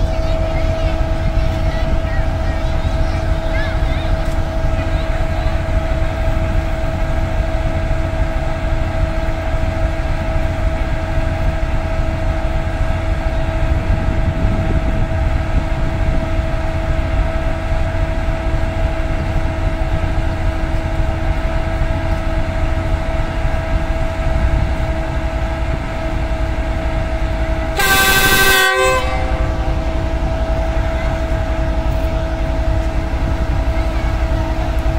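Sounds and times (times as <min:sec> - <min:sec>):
locomotive idling: 0:00.0 - 0:34.9.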